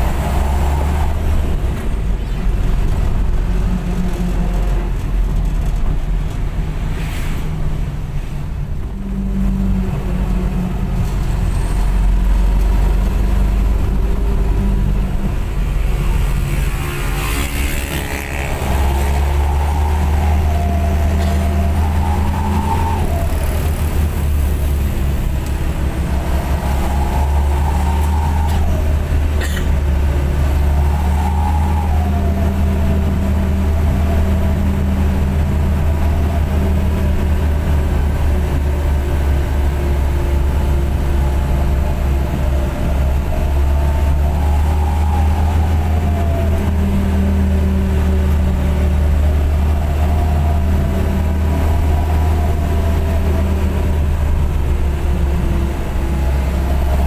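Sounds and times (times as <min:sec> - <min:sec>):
minibus engine and exhaust droning: 0:00.0 - 0:57.0.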